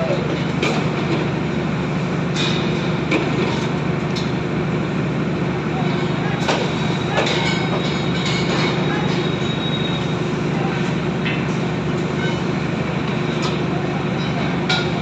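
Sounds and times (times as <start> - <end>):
construction machinery droning: 0.0 - 15.0.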